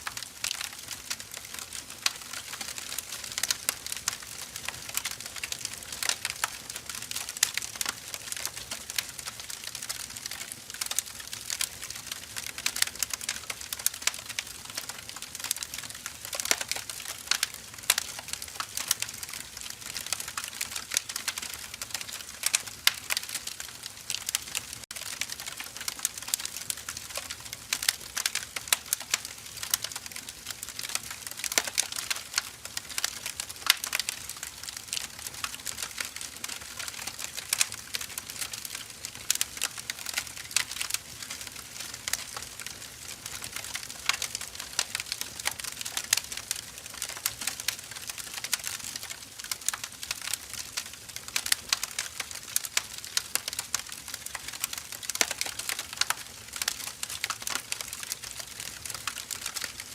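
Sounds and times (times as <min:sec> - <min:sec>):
logs crackling and snapping: 0:00.0 - 0:59.9.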